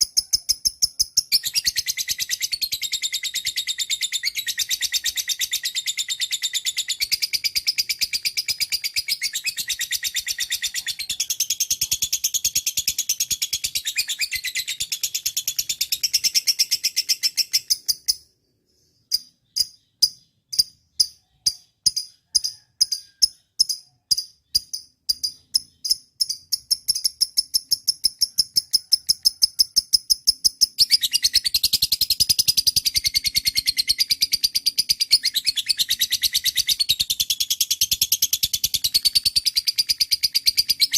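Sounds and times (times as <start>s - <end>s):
lovebird chattering song: 0.0s - 40.9s.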